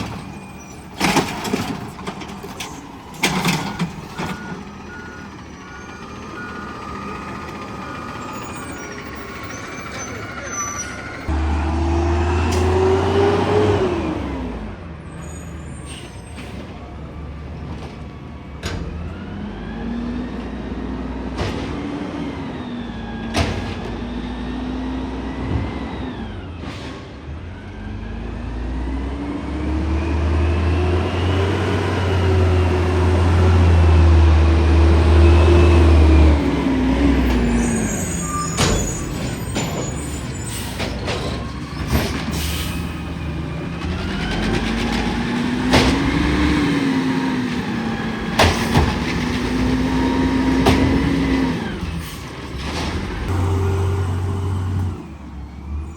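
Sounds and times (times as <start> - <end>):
garbage truck engine revving: 0.0 - 15.6, 16.6 - 55.9.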